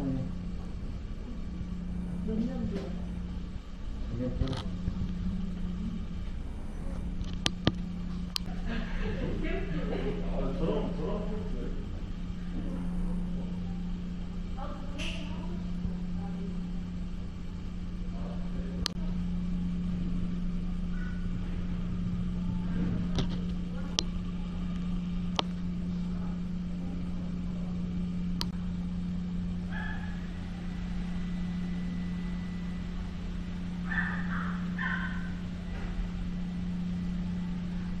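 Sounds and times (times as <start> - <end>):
low mechanical hum: 0.0 - 38.0
low rumble: 0.0 - 38.0.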